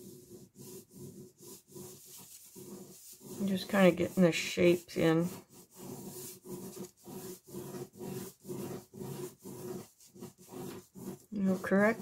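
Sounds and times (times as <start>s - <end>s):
pen scratching on paper: 0.0s - 12.0s.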